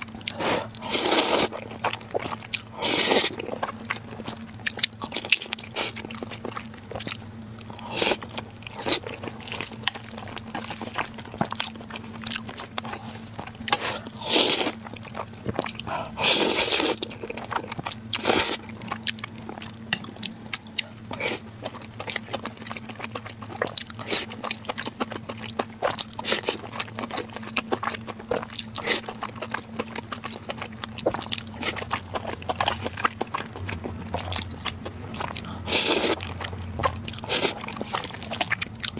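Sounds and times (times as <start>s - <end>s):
faint low hum: 0.0s - 38.9s
wet chewing and biting: 0.0s - 38.9s.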